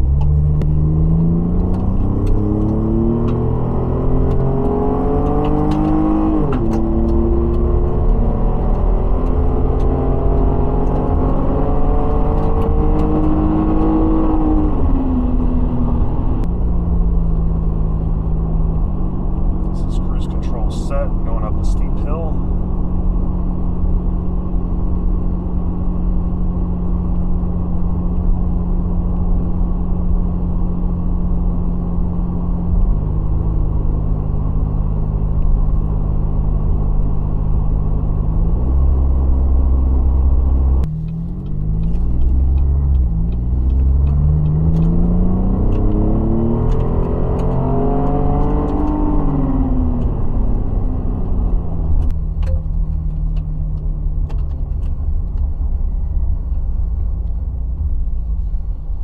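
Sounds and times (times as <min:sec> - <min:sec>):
truck engine climbing a hill: 0:00.0 - 0:59.0.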